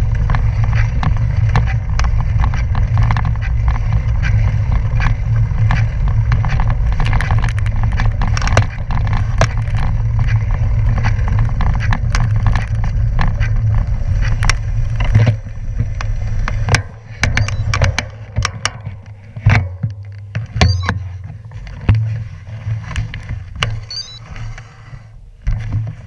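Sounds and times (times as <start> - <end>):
bicycle tyres rolling on gravel: 0.0 - 26.0.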